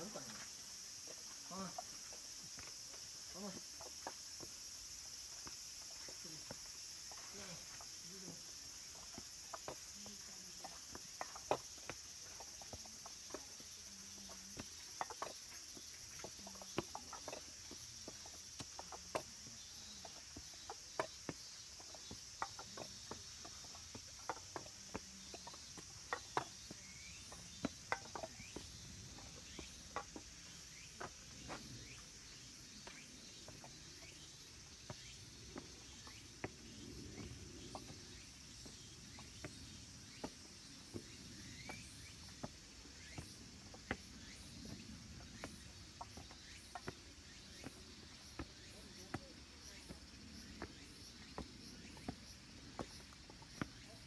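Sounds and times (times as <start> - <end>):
cicadas singing: 0.0 - 54.0
footsteps on stone steps: 0.0 - 54.0.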